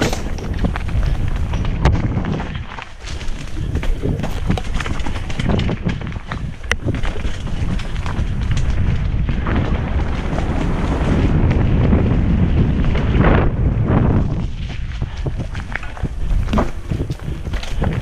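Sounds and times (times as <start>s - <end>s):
bike rattling over rough ground: 0.0s - 18.0s
wind buffeting microphone: 0.0s - 18.0s.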